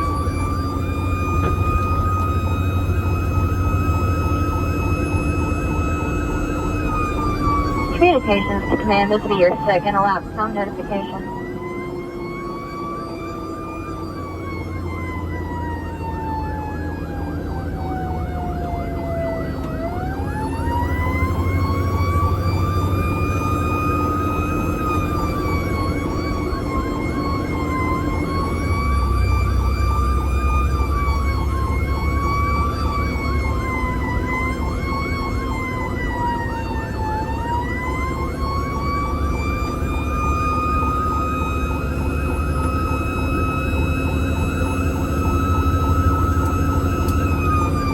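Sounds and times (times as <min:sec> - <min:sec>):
emergency vehicle siren wailing: 0:00.0 - 0:47.9.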